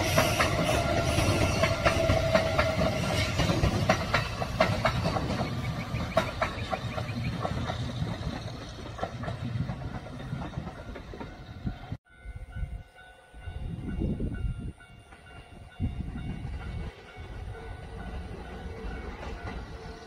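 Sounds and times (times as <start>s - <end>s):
rail clicks: 0.0s - 12.0s, 13.4s - 20.0s
train rumbling on rails: 0.0s - 20.0s.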